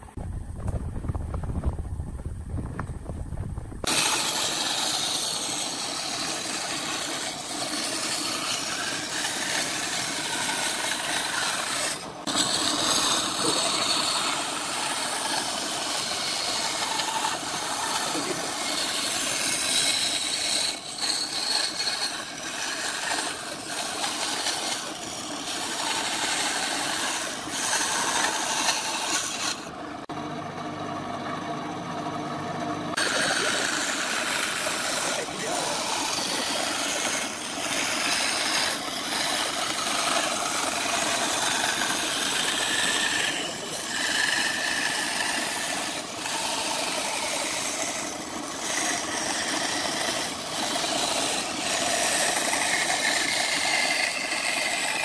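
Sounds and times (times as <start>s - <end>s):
bandsaw cutting wood: 3.8s - 30.2s, 32.9s - 55.0s
bandsaw humming: 3.8s - 55.0s.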